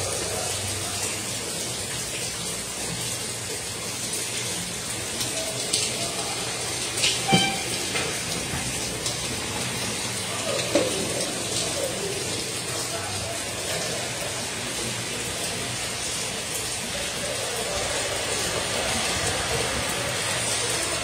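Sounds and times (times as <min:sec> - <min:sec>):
sharp drips and splashes: 0:00.0 - 0:21.0
steady rain: 0:00.0 - 0:21.0
water pouring off a roof edge: 0:00.0 - 0:21.0.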